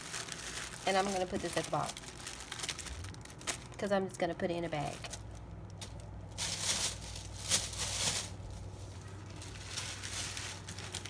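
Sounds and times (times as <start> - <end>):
packing materials rustling: 0.0 - 3.9, 4.8 - 11.0
steady low hum: 0.0 - 11.0.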